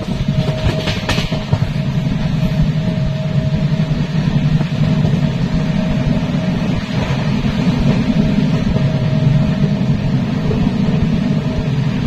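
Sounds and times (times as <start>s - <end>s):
faint steady whine: 0.0s - 12.0s
train coach rumbling: 0.0s - 12.0s.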